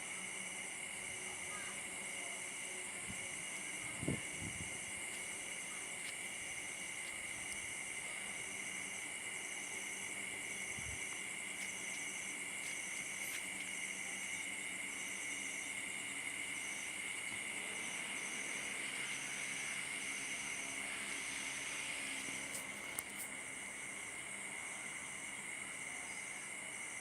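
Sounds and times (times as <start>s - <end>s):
insects trilling: 0.0s - 27.0s
pulsing insect chirp: 0.0s - 27.0s.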